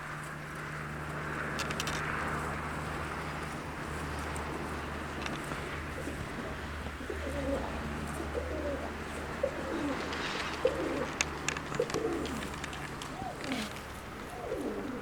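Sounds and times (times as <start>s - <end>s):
pigeons cooing: 2.6s - 15.0s.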